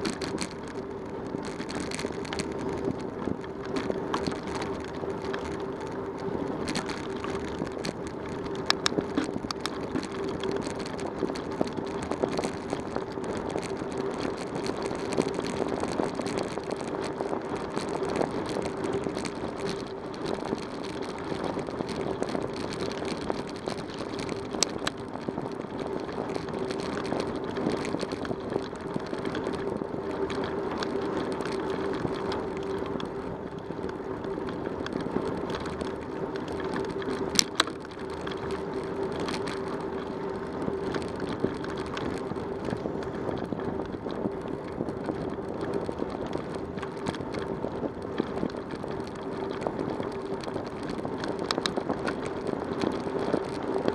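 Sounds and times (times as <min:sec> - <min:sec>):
bicycle tyre noise: 0:00.0 - 0:53.9
bike rattling: 0:00.0 - 0:53.9.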